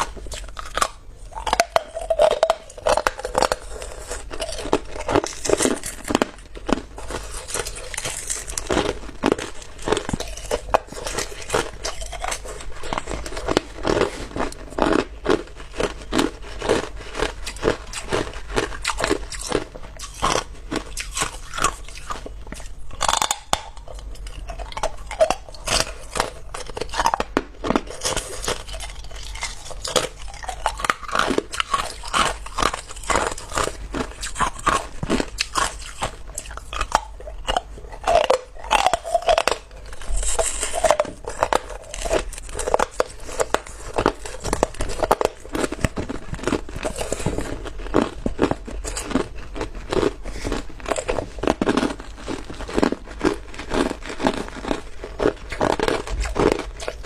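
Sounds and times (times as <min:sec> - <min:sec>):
person chewing ice: 0:00.0 - 0:57.0.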